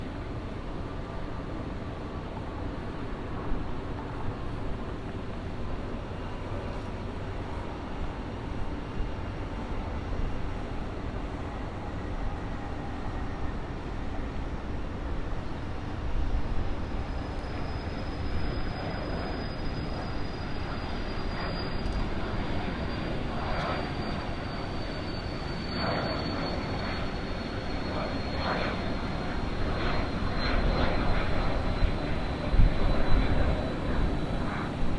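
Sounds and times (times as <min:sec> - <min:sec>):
jet engine high whine: 0:00.0 - 0:34.9.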